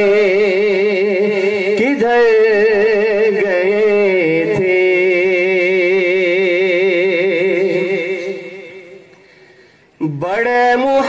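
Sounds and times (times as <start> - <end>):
man singing unaccompanied: 0.0 - 9.1, 10.0 - 11.0.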